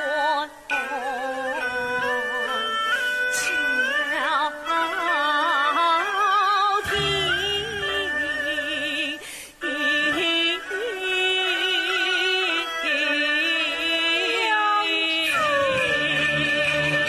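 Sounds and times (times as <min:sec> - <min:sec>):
opera singing with vibrato: 0:00.0 - 0:17.0
traditional ensemble accompaniment: 0:00.7 - 0:17.0.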